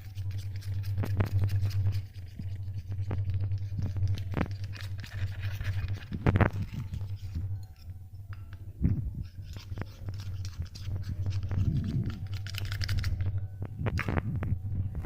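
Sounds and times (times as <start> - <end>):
clicks and scrapes of handled objects: 0.0 - 14.6
steady low hum: 0.0 - 15.0.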